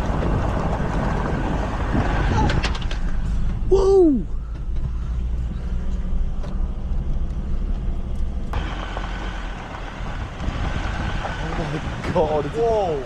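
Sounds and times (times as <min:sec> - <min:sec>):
vehicle interior rumble: 0:00.0 - 0:13.0.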